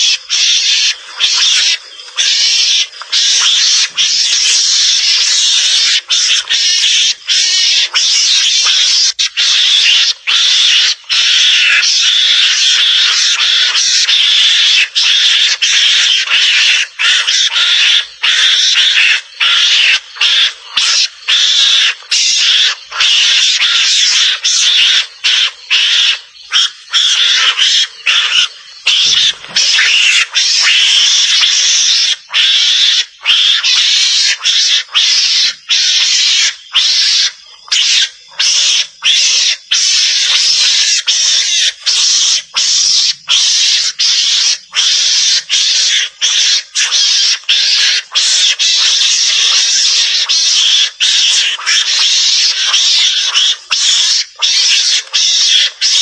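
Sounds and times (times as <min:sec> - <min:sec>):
mongoose chattering calls: 0:00.0 - 0:56.0.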